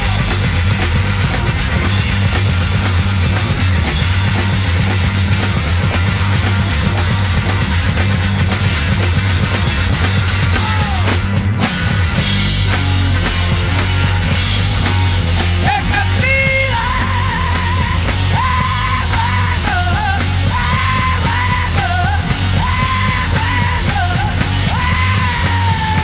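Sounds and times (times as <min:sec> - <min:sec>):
heavy bass and drums: 0:00.0 - 0:26.0.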